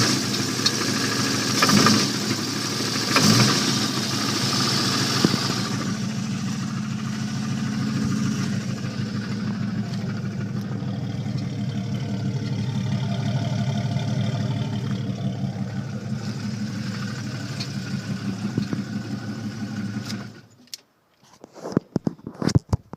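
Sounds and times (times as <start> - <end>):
engine running with rod knock: 0.0 - 20.4.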